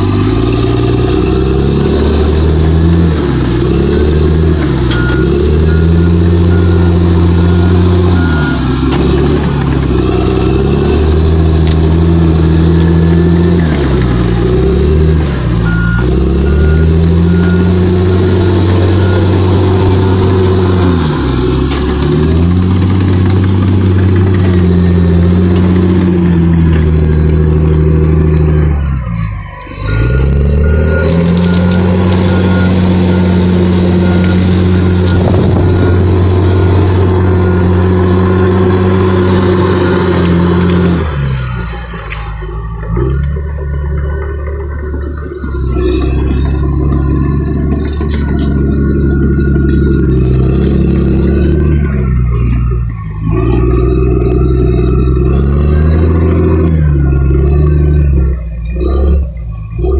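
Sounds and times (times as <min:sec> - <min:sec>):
backup alarm beeping: 0:00.0 - 0:59.9
diesel engine running under load: 0:00.0 - 0:59.9.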